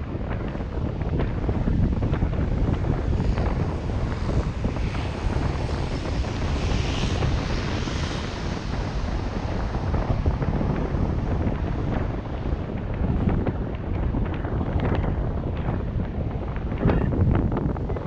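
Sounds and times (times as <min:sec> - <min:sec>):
car road noise: 0:00.0 - 0:18.0
wind buffeting microphone: 0:00.0 - 0:18.0.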